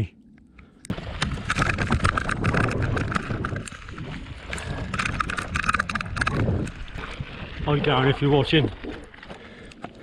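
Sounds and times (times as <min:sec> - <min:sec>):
bike rattling: 0:00.9 - 0:09.7
tyres crunching on loose stones: 0:00.9 - 0:10.0.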